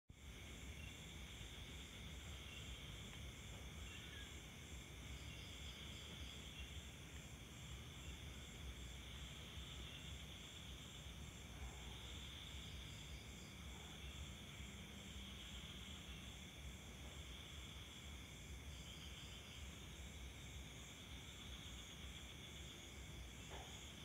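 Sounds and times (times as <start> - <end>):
insects chirring: 0.2 - 24.0.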